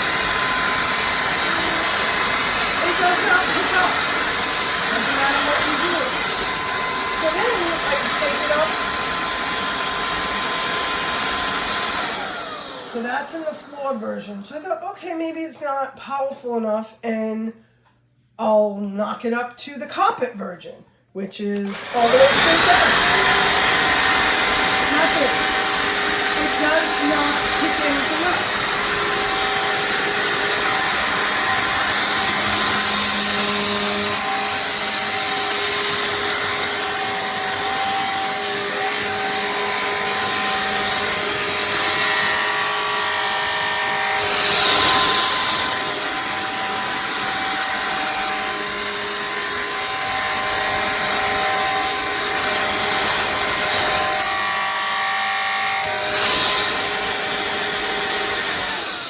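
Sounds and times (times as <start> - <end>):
vacuum cleaner running: 0.0 - 14.2, 21.6 - 59.0.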